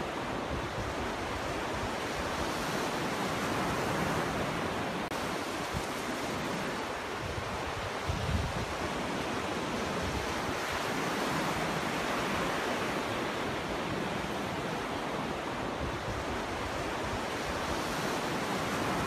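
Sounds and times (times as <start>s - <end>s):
small waves breaking: 0.0s - 19.0s.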